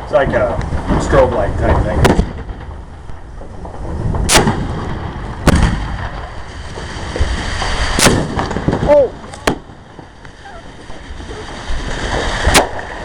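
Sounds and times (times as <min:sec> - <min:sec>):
echoing rumble: 0:00.0 - 0:13.0
fireworks bangs: 0:00.0 - 0:13.0.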